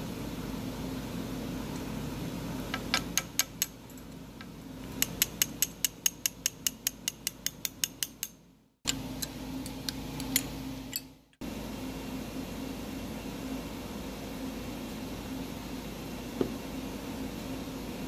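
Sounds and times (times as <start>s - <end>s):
machine shop hum: 0.0s - 18.0s.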